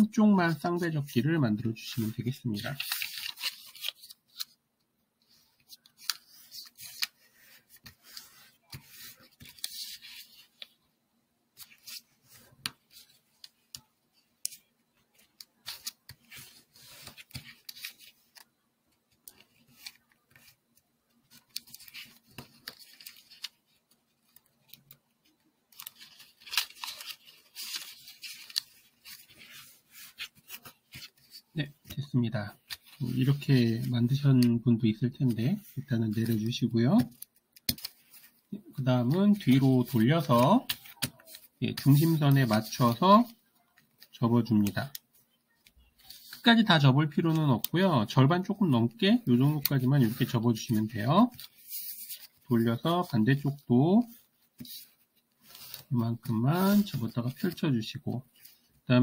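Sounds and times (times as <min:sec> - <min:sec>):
paper folding and crinkling: 0:00.5 - 0:04.6, 0:05.2 - 0:10.9, 0:11.6 - 0:58.9.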